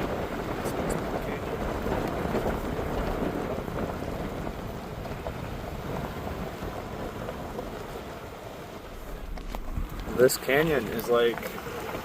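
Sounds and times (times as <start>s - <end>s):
truck tyres rolling over gravel: 0.0s - 12.0s.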